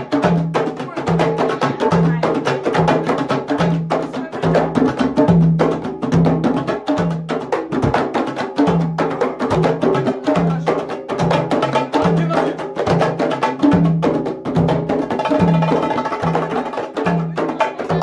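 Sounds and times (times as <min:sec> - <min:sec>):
hand drums playing fast rhythm: 0:00.0 - 0:18.0.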